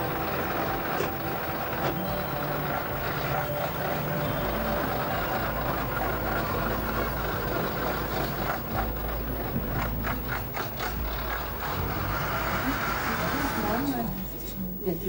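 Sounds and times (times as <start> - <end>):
truck engine running: 0.0 - 13.9.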